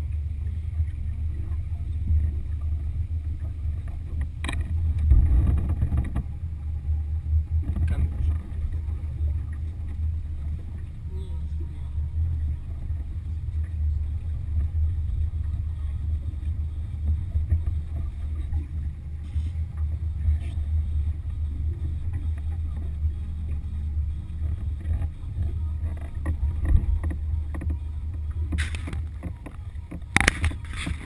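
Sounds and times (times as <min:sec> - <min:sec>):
outboard motor rumbling: 0:00.0 - 0:31.0.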